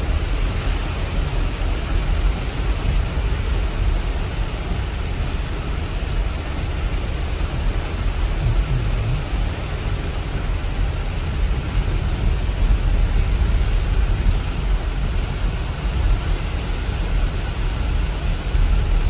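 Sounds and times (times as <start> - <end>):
floodwater rushing: 0.1 - 19.0.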